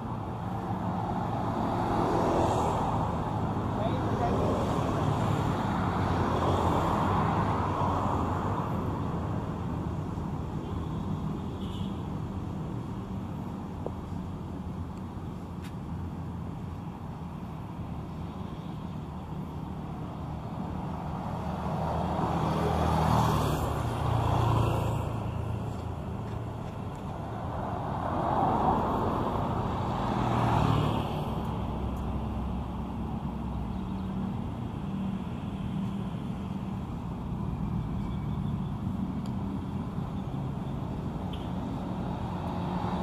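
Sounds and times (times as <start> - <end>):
hum of traffic engines: 0.0 - 43.0
vehicles passing close by: 0.0 - 43.0.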